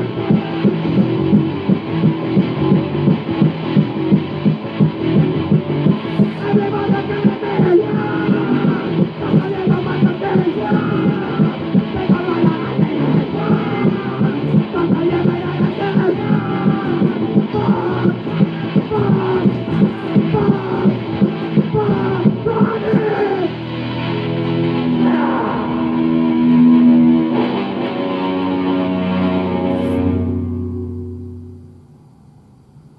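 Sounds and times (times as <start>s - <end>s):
punk rock electric guitar: 0.0s - 32.1s.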